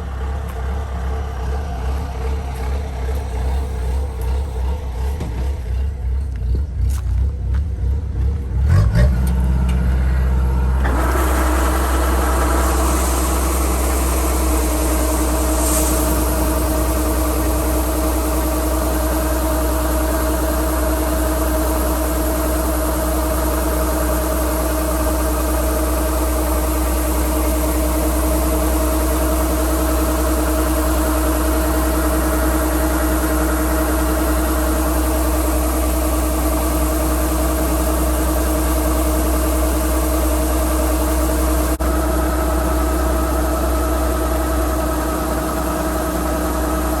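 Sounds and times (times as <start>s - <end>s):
combine harvester engine running: 0.0s - 47.0s.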